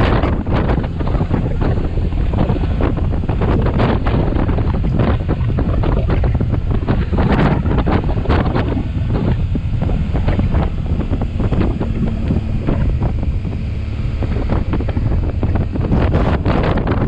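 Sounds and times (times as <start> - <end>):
motorbike engine running: 0.0 - 17.0
wind buffeting microphone: 0.0 - 17.0.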